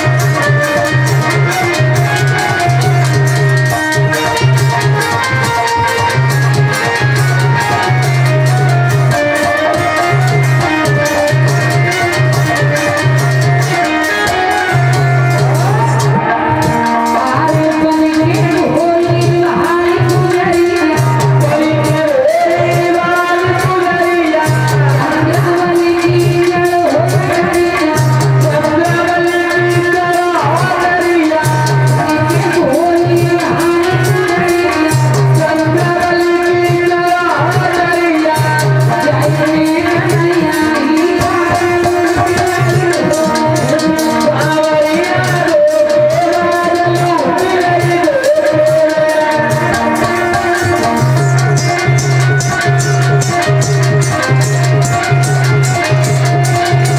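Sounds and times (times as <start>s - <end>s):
woman singing: 0.0s - 53.3s
drums: 0.0s - 56.9s
jingling percussion: 0.0s - 56.9s
sustained melody notes: 0.0s - 56.9s.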